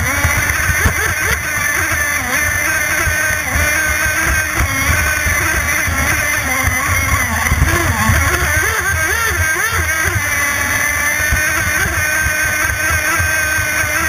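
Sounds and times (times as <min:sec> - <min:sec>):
model boat engine at high speed: 0:00.0 - 0:14.0.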